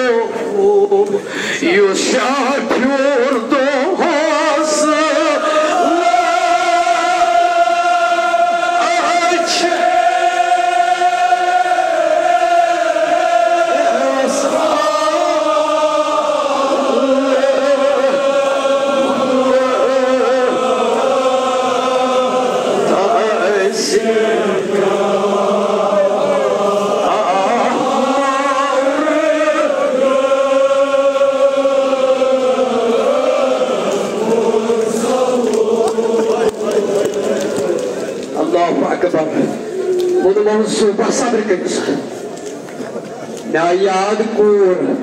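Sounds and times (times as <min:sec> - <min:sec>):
men chanting in unison: 0:00.0 - 0:38.8.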